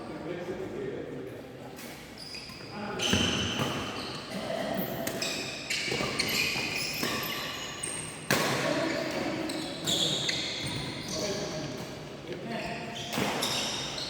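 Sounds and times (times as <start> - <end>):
shoe squeaks: 1.8 - 11.8, 12.4 - 14.0.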